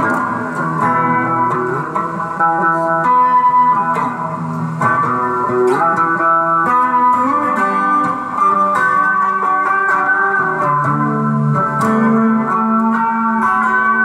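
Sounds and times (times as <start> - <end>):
guitar chords ringing: 0.0 - 14.0.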